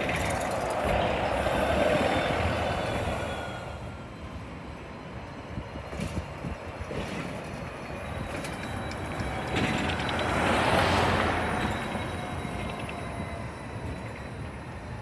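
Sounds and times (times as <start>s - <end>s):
bus tyre and running noise: 0.0s - 3.8s, 5.5s - 14.4s.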